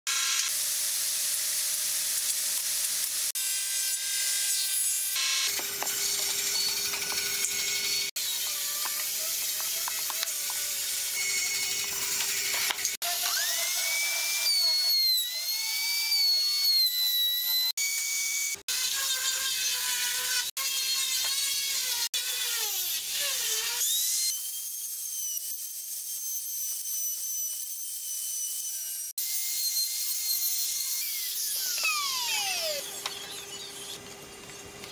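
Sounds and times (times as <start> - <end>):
router whining cutting wood: 0.1 - 34.0.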